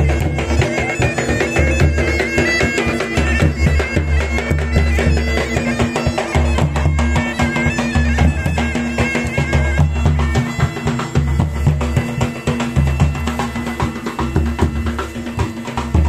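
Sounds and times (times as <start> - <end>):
drum beats: 0.0 - 16.0
reed pipe melody over drone: 0.0 - 16.0.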